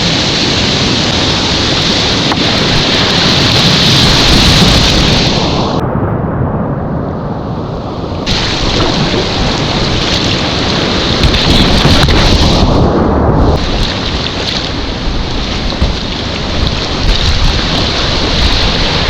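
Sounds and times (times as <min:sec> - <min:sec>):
river rapid rushing: 0:00.0 - 0:05.8, 0:08.2 - 0:19.0.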